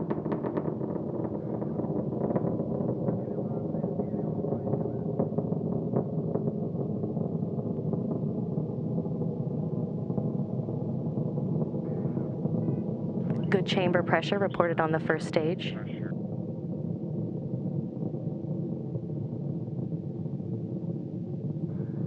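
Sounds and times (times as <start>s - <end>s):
rocket engine roaring: 0.0s - 22.0s.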